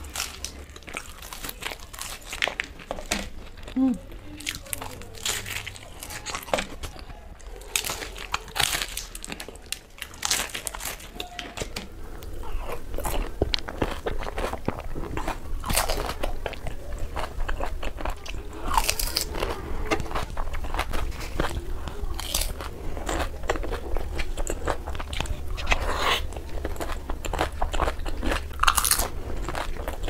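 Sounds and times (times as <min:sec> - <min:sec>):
person crunching and chewing: 0:00.0 - 0:30.0.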